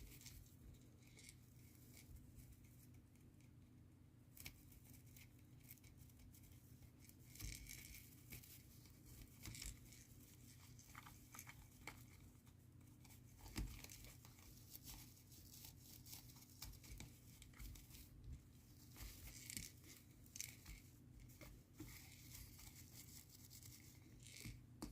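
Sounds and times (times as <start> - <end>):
christmas tree scratching: 4.5 - 24.7.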